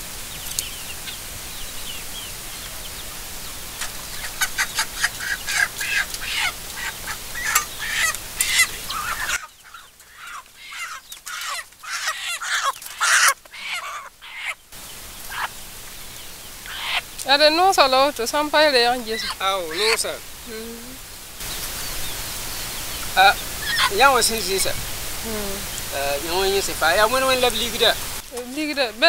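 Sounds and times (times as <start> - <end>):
chickens clucking and squawking: 0.0 - 28.9.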